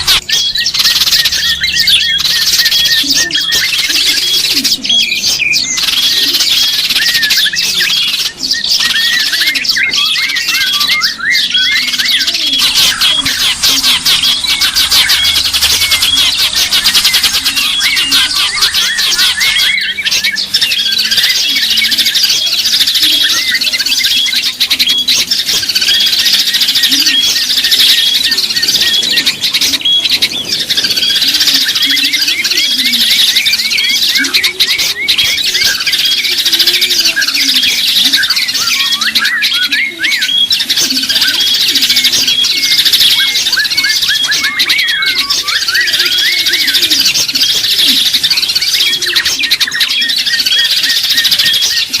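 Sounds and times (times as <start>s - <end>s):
small songbirds chirping: 0.0s - 52.0s.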